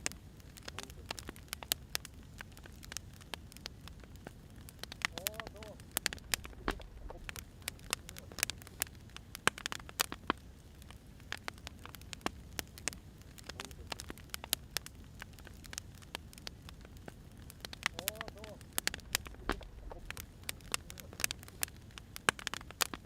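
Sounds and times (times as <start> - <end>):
firewood crackling and popping: 0.0 - 23.0
low steady hiss: 0.0 - 23.0.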